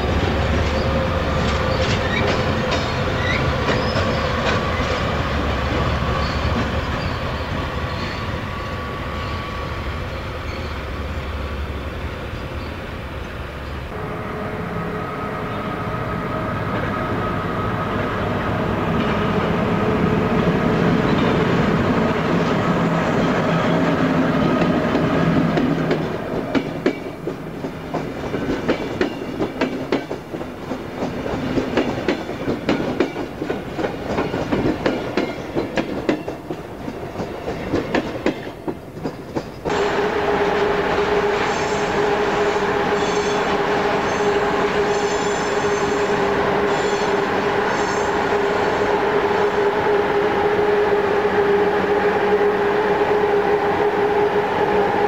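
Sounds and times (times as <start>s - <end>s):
locomotive-hauled train passing: 0.0s - 55.0s
train running rumble: 0.0s - 55.0s.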